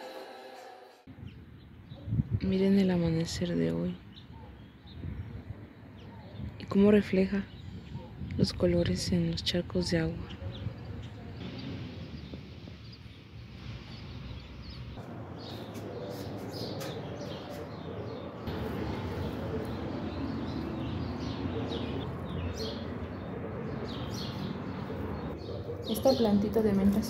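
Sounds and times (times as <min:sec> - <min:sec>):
small birds chirping: 0:01.2 - 0:27.0.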